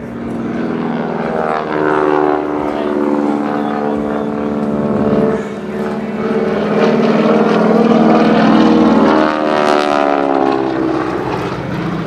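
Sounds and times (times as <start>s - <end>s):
propeller plane flying by: 0.0s - 12.0s.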